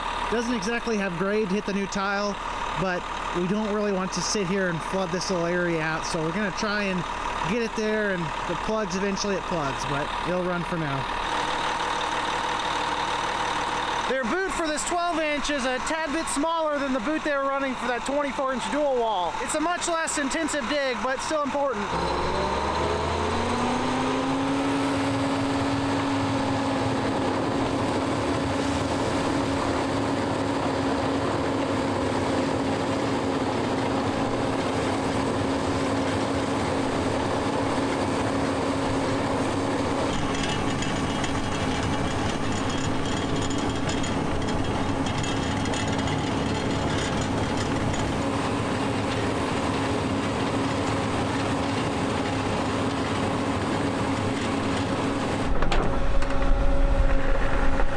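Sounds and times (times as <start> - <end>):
diesel engine revving: 0.0 - 57.9.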